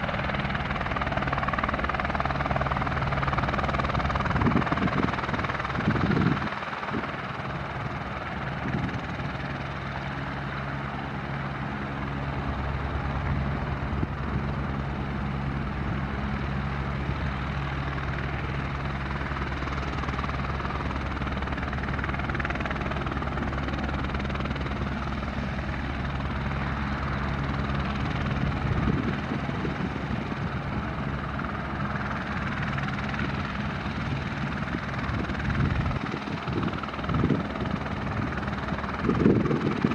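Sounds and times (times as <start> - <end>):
helicopter rotor beat: 0.0 - 39.9
turbine noise: 0.0 - 39.9.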